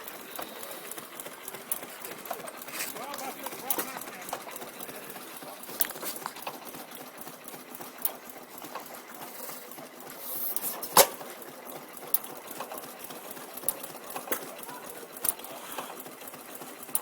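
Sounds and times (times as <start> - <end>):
old engine clattering: 0.0 - 17.0.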